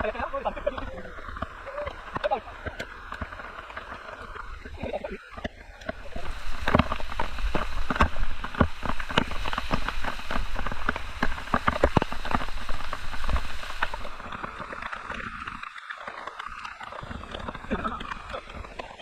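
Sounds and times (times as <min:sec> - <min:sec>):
water drips and splashes: 0:00.0 - 0:19.0.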